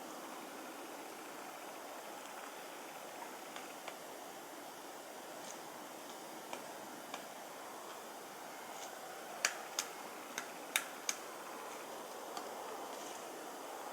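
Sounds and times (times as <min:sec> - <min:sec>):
steady hiss: 0:00.0 - 0:13.9.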